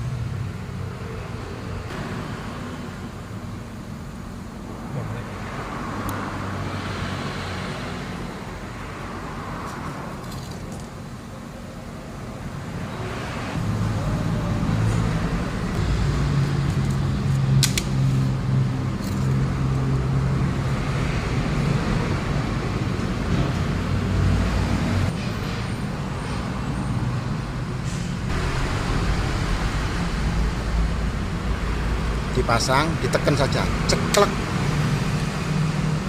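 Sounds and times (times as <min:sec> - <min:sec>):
workshop noise: 0:04.6 - 0:36.0.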